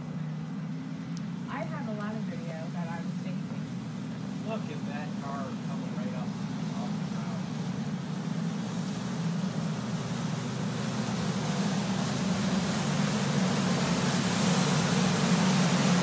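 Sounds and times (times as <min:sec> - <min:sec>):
truck engine drone: 0:00.0 - 0:16.0
water rushing hiss: 0:02.2 - 0:16.0.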